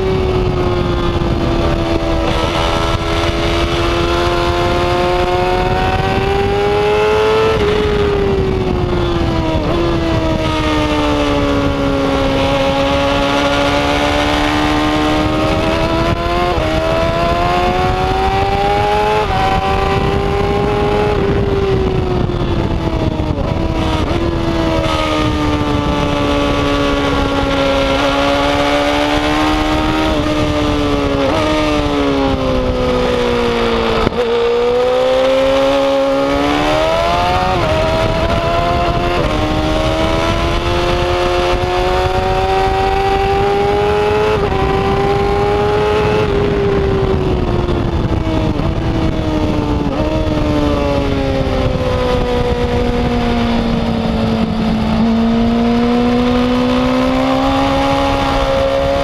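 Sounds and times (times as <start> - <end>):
motorcycle engine under load: 0.0 - 59.0
wind rush: 0.0 - 59.0.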